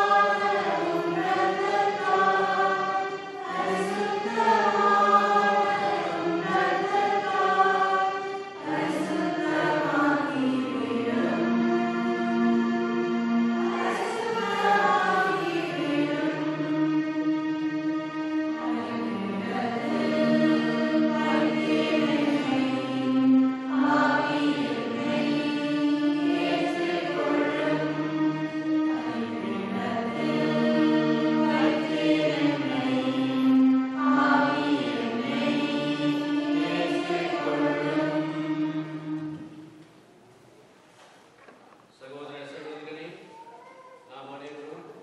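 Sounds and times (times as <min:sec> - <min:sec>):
voices singing a hymn: 0:00.0 - 0:40.0.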